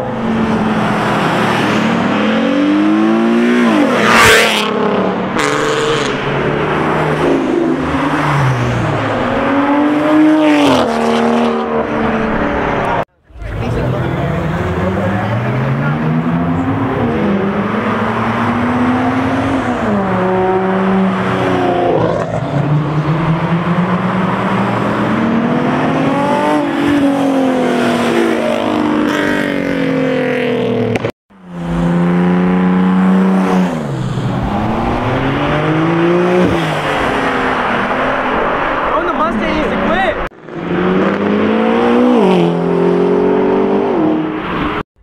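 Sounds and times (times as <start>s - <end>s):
car engine revving hard: 0.1s - 44.8s.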